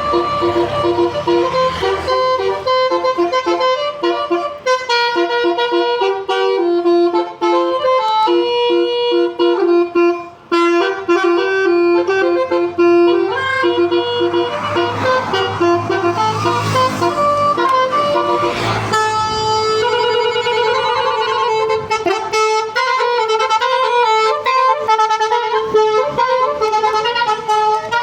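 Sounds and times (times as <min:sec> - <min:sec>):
musical vehicle horn melody: 0:00.0 - 0:28.0.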